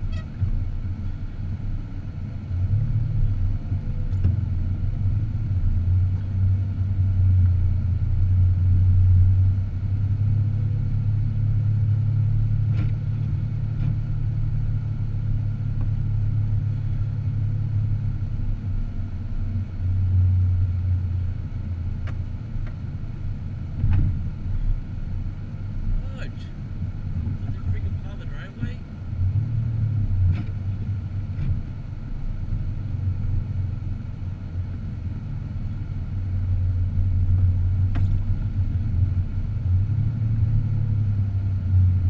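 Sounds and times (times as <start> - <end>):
car engine and road drone: 0.0 - 42.0.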